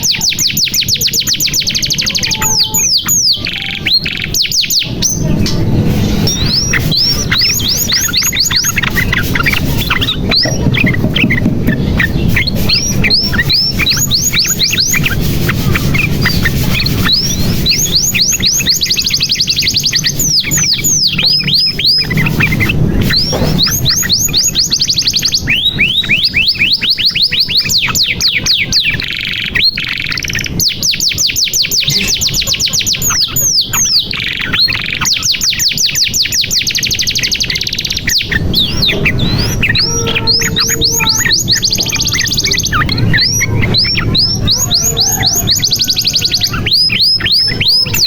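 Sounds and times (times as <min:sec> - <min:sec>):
canary singing trills: 0:00.0 - 0:48.0.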